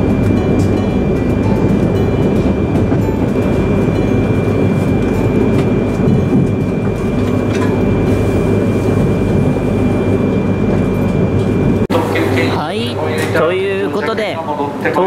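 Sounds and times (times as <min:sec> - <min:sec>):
train wheels rumbling: 0:00.0 - 0:13.8
thin high whine: 0:00.0 - 0:14.3.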